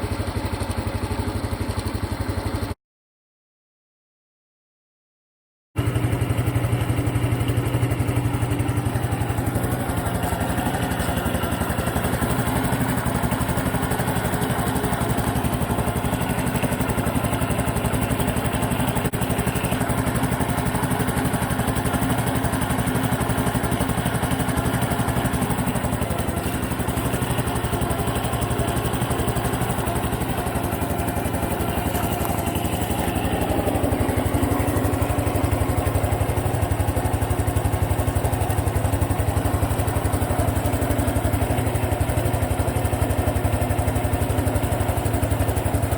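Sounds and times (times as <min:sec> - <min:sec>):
motorcycle engine idling: 0:00.0 - 0:02.8, 0:05.8 - 0:45.9.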